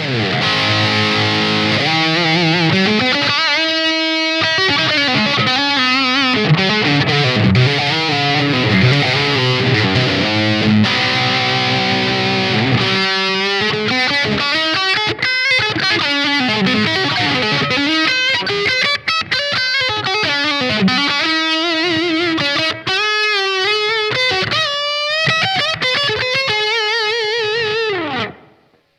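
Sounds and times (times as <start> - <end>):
electric guitar playing: 0.0 - 28.8.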